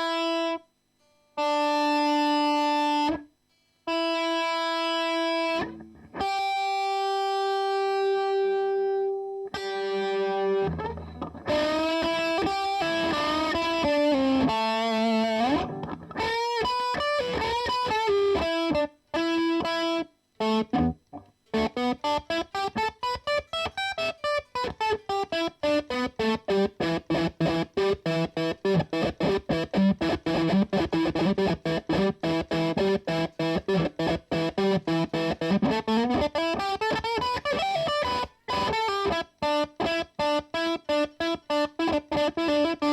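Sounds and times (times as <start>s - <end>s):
distorted electric guitar: 0.0s - 0.7s, 1.4s - 42.9s.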